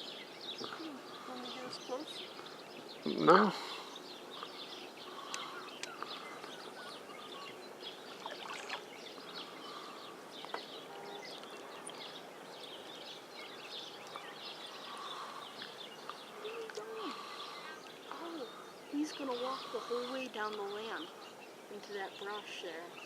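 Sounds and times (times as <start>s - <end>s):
bird chirps: 0.0s - 23.0s
faint steady hiss: 0.0s - 23.0s.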